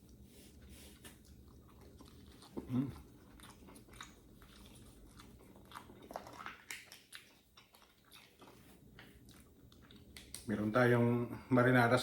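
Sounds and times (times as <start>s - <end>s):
chewing with mouth clicks: 0.0s - 10.7s.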